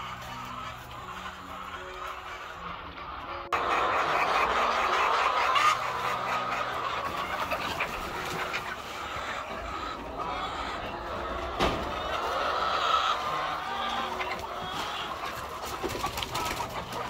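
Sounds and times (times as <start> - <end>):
hens clucking and squawking: 0.0 - 17.0.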